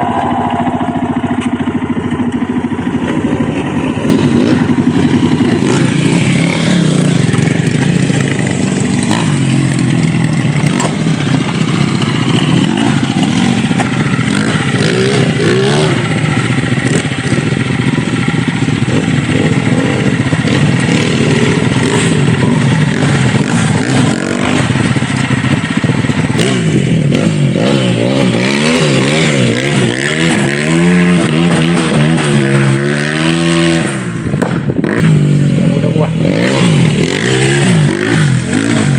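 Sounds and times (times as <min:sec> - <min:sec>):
clatter and scraping: 0:00.0 - 0:35.2
dirt bike engine revving: 0:00.0 - 0:38.9.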